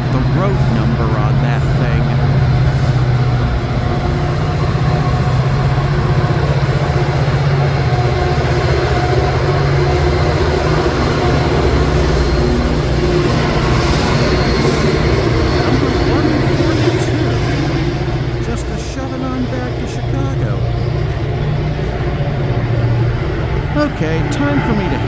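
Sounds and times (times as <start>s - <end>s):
diesel train passing: 0.0s - 25.0s.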